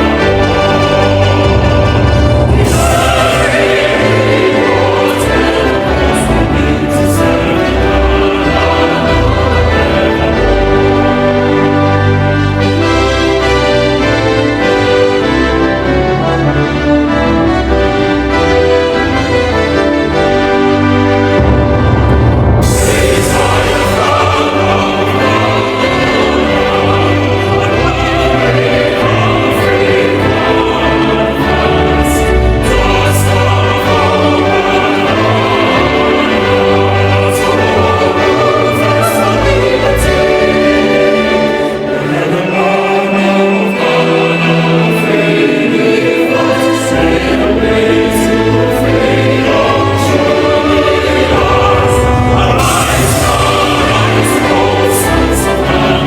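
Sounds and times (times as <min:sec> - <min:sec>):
choir singing an anthem: 0:00.0 - 0:56.0
orchestral accompaniment: 0:00.0 - 0:56.0.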